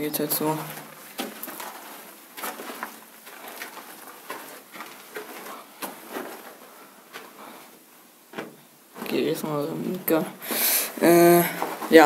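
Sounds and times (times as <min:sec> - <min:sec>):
footsteps crunching on gritty floor: 0:00.3 - 0:09.5, 0:11.1 - 0:12.0.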